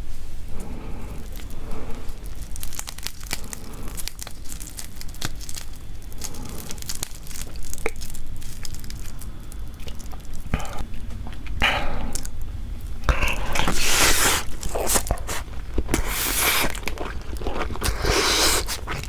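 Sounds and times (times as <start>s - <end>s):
crab shells cracking: 1.1s - 11.2s, 12.1s - 19.0s.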